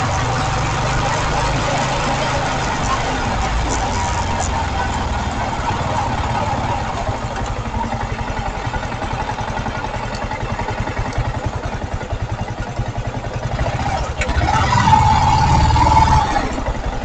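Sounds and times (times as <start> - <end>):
motorcycle engine slowing to idle: 0.0 - 17.0.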